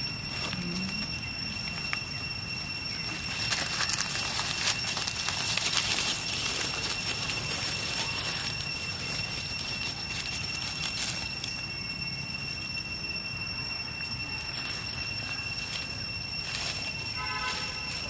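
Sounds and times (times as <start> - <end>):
dry leaves crackling and rustling: 0.0 - 18.0
steady high-pitched whine: 0.0 - 18.0.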